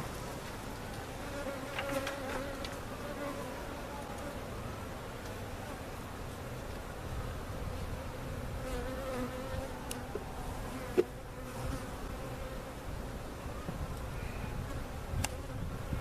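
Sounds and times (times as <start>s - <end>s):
honey bees buzzing: 0.9s - 16.0s.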